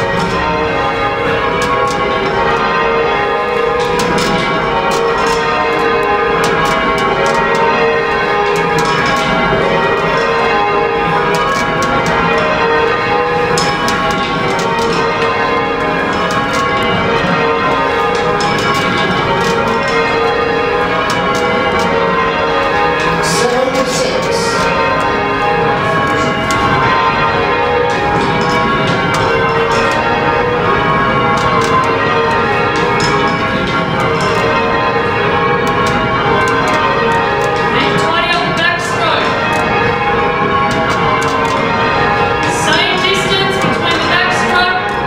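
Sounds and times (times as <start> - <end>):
tower bells ringing: 0.0 - 45.0.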